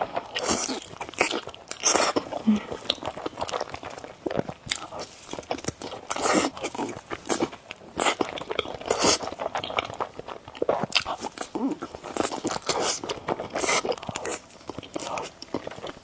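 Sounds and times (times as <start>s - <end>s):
person biting and chewing food: 0.0s - 16.0s.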